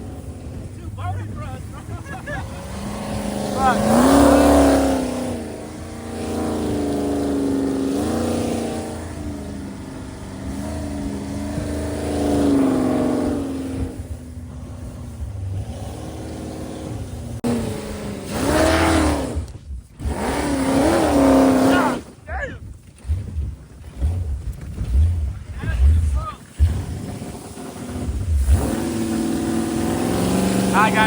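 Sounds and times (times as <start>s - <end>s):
engine revving hard: 0.0s - 22.2s, 23.0s - 31.0s.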